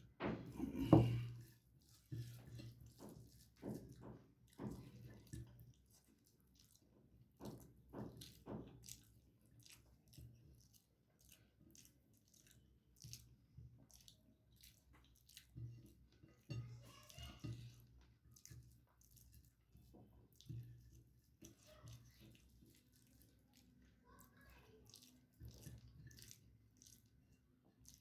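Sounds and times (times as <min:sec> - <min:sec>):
person chewing food: 0:00.4 - 0:16.6, 0:18.4 - 0:23.9, 0:24.9 - 0:28.0.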